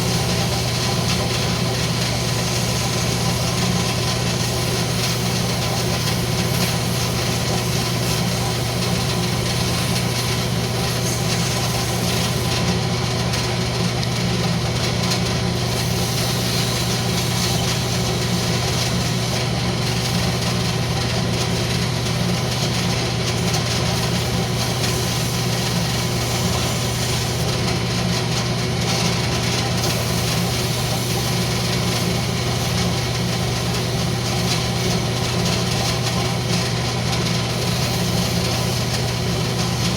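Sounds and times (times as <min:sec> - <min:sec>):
sandpaper hissing on spinning wood: 0:00.0 - 0:13.3, 0:15.3 - 0:27.7, 0:28.6 - 0:39.9
wood lathe motor hum: 0:00.0 - 0:39.9.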